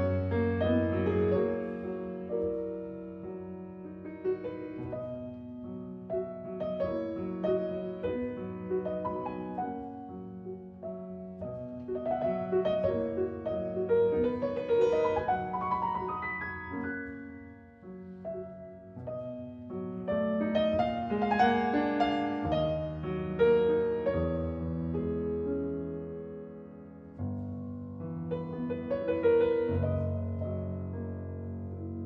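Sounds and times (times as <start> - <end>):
background piano music: 0.0 - 32.0.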